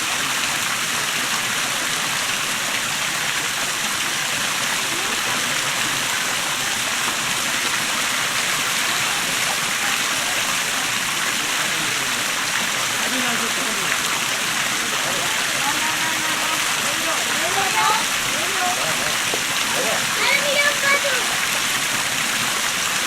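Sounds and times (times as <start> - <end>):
waterfall splashing: 0.0 - 23.0.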